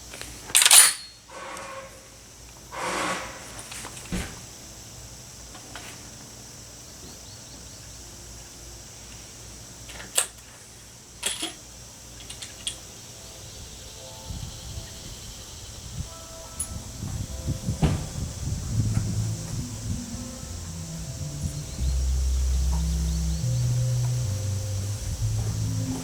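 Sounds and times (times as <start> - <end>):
outdoor background hiss: 0.0 - 26.0
faint music: 1.3 - 26.0.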